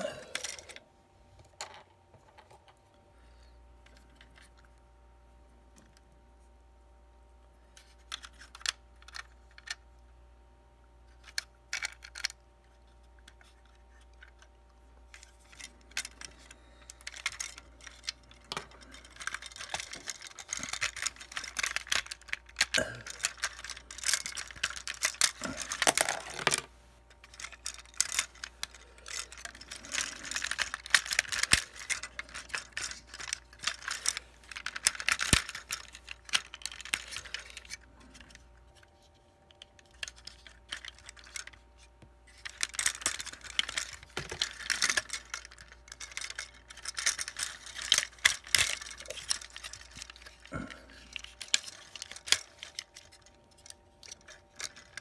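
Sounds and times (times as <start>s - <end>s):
plastic toy parts clicking: 0.0s - 0.8s, 7.8s - 9.8s, 11.1s - 55.0s.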